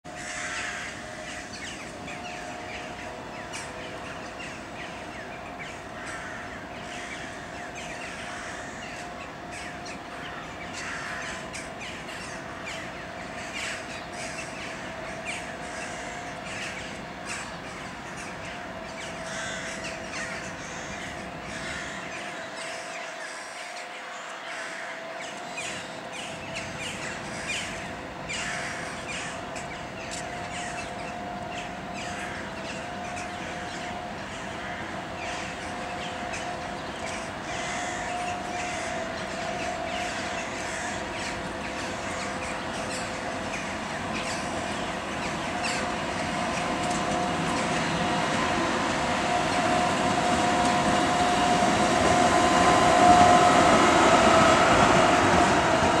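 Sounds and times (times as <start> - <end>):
flock of birds calling: 0.1 - 56.0.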